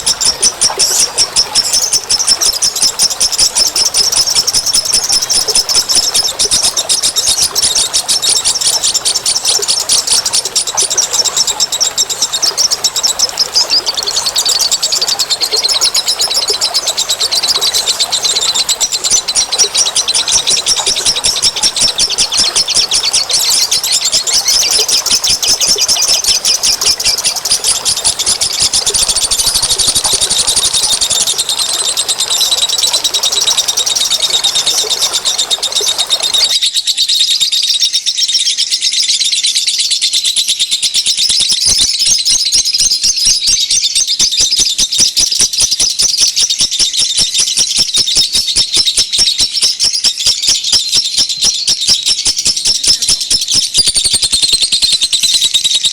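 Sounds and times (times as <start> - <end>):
songbirds chirping and trilling: 0.0 - 55.9.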